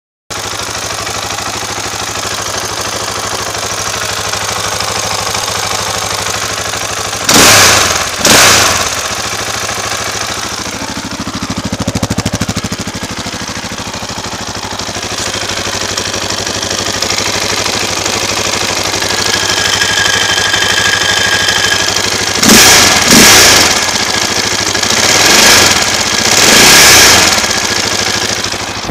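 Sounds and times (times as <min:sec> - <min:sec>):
motorcycle engine idling: 0:00.3 - 0:28.9
engine throttle blips: 0:03.3 - 0:28.9.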